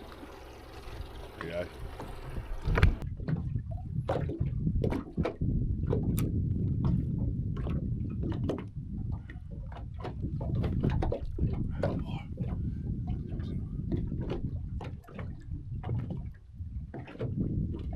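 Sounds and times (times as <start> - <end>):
water sloshing and gurgling: 0.0 - 17.9.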